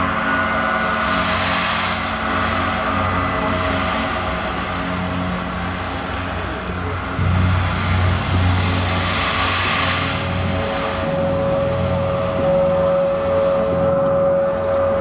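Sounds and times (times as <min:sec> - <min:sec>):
bright shimmering wash: 0:00.0 - 0:15.0
gongs and singing bowls drone: 0:00.0 - 0:15.0
wavering low rumble: 0:00.0 - 0:15.0.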